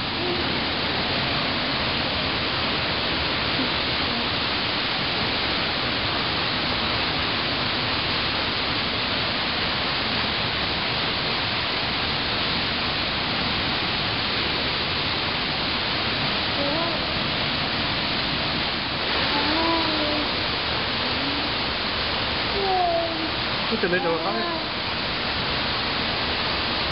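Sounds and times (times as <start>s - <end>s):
steady rushing noise: 0.0s - 26.9s.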